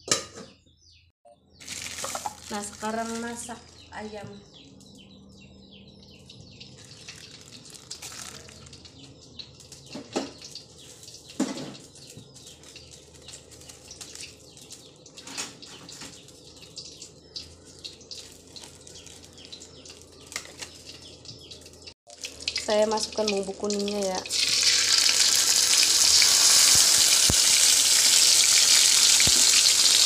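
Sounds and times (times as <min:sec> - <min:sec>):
oil crackling in a wok: 0:01.6 - 0:03.5, 0:06.6 - 0:30.0.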